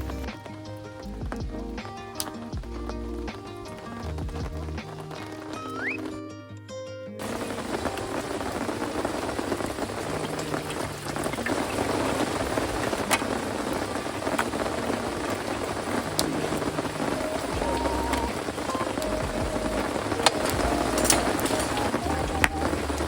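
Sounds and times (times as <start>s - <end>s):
rain falling: 0.0s - 6.2s, 7.2s - 23.0s.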